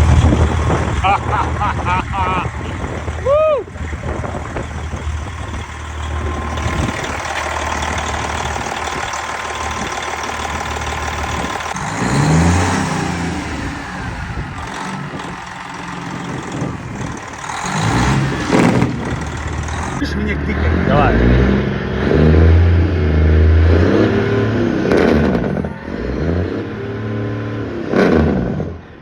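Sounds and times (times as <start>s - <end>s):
truck diesel engine rasp: 0.0s - 29.0s.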